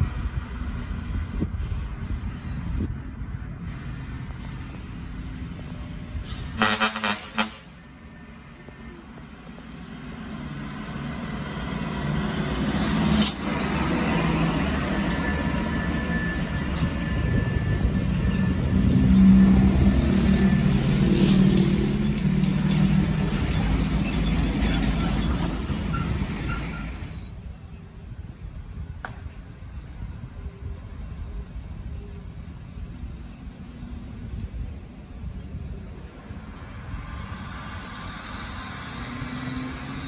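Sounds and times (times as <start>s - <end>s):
truck diesel engine labouring: 0.0s - 27.4s, 33.5s - 40.0s.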